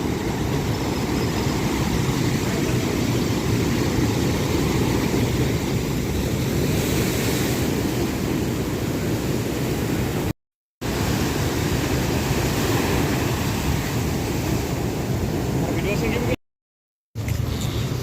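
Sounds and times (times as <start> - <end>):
ocean surf breaking: 0.0 - 16.4.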